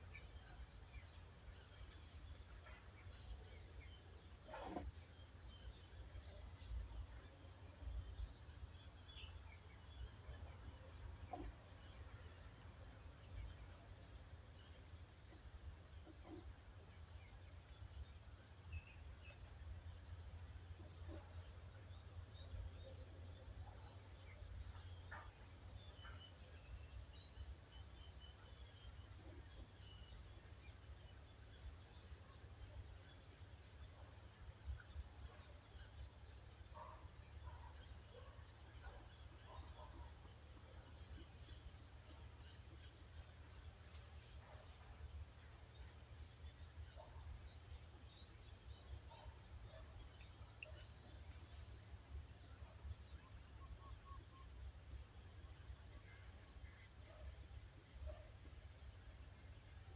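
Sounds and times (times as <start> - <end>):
woodland birds chirping: 0.0 - 58.7.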